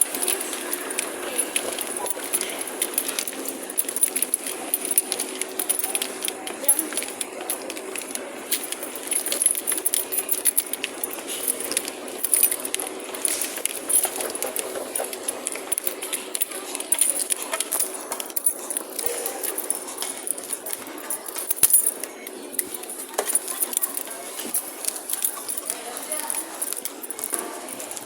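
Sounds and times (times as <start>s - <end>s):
small hard objects clicking and jangling: 0.0s - 28.0s.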